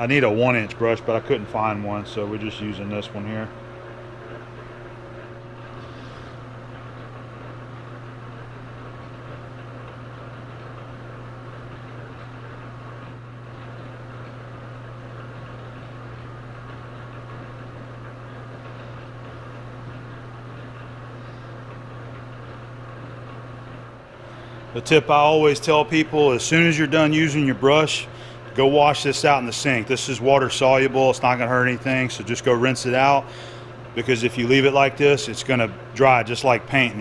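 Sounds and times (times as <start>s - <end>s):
metal lathe running: 0.0s - 37.0s.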